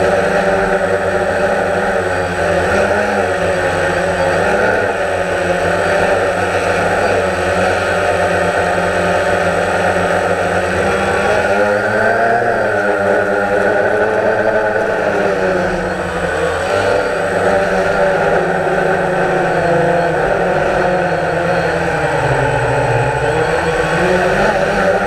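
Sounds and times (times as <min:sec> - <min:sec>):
drone propellers whirring: 0:00.0 - 0:25.0.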